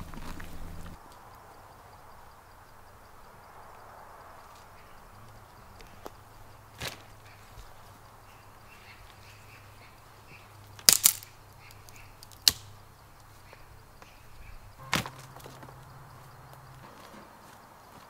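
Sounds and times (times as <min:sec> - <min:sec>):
faint bird chirps: 0:00.3 - 0:16.8.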